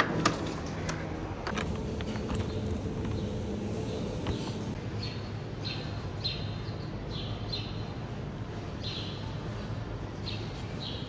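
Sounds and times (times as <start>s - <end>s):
refrigeration and ventilation hum: 0.0s - 11.0s.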